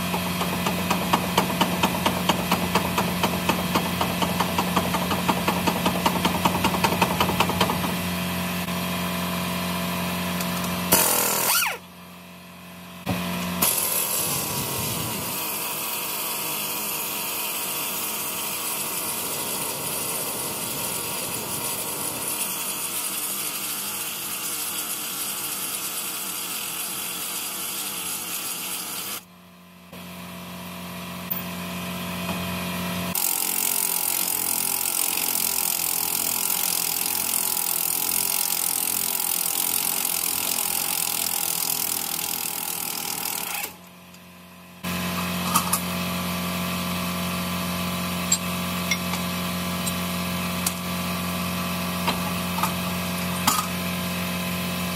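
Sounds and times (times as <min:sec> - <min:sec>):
pneumatic air tool running: 0:00.0 - 0:12.0, 0:13.0 - 0:29.3, 0:31.1 - 0:54.9.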